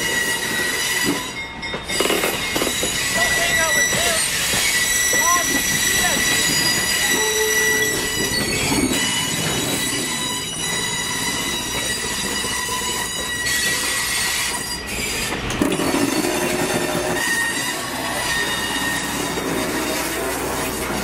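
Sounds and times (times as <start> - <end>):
rumble of train trucks: 0.0 - 21.0
train wheels squealing on rail: 0.0 - 21.0.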